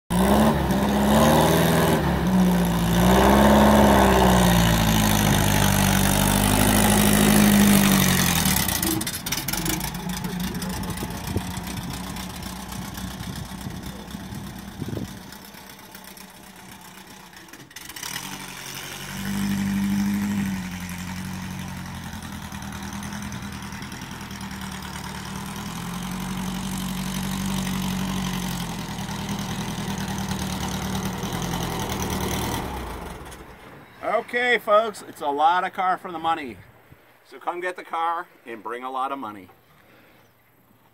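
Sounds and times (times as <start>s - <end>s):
buggy engine revving: 0.1s - 34.1s.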